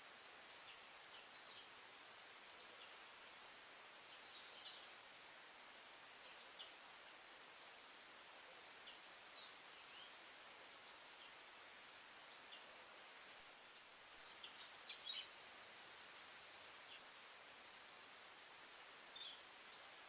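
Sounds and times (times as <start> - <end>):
birds chirping faintly: 0.0 - 20.0
soft forest hiss: 0.0 - 20.0.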